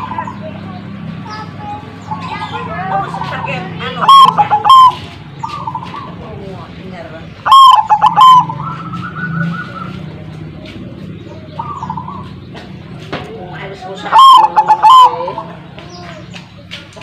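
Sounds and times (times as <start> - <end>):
doves calling: 0.0 - 17.0.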